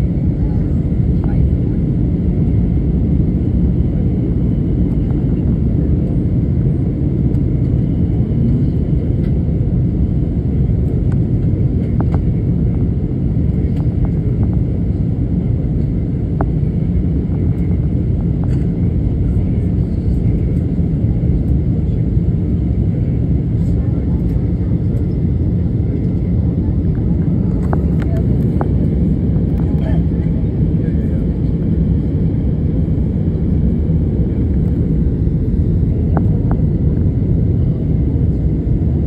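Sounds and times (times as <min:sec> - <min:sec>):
jet engines rumbling in cabin: 0:00.0 - 0:39.0.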